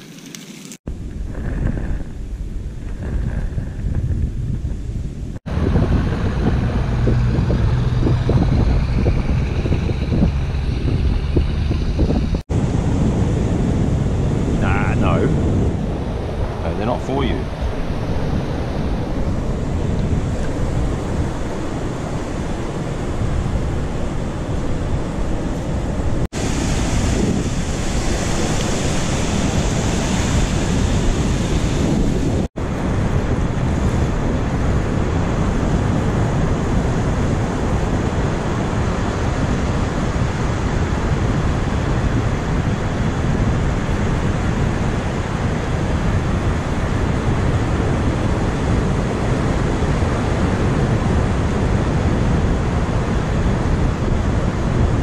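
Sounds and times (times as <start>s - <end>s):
wind rumbling on microphone: 0.0s - 55.0s
surf washing over sand: 5.5s - 55.0s.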